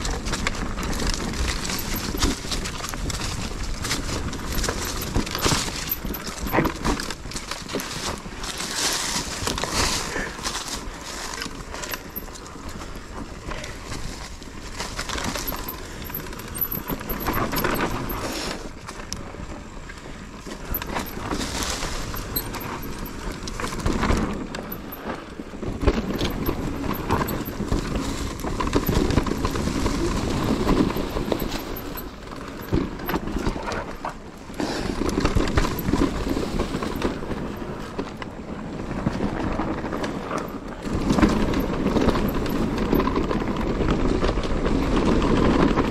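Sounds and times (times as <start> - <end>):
bike rattling over bumps: 0.0 - 45.9
bike tyres on dirt and stones: 0.0 - 45.9.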